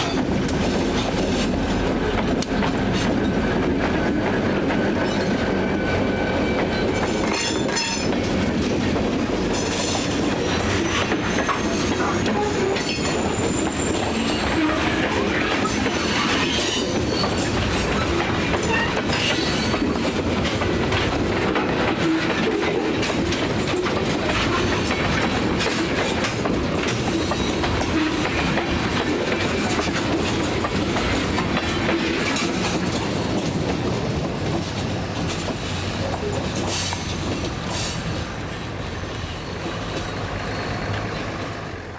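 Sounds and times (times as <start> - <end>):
wheels clicking over rail joints: 0.0 - 5.6, 6.6 - 41.9
freight train rumble: 0.0 - 41.9.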